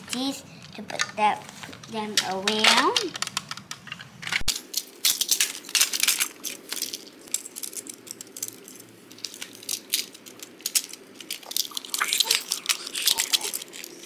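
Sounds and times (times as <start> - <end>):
plastic toy parts clicking: 1.8 - 14.0.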